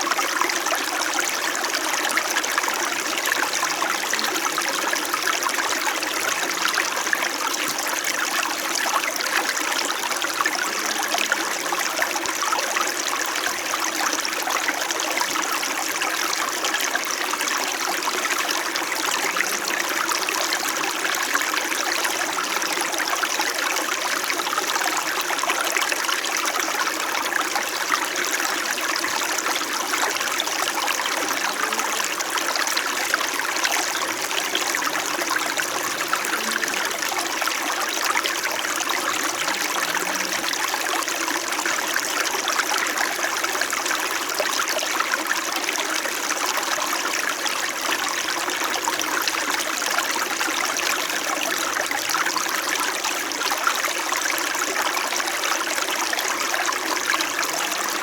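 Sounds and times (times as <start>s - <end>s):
brook babbling: 0.0s - 58.0s
low water gurgles: 0.0s - 58.0s.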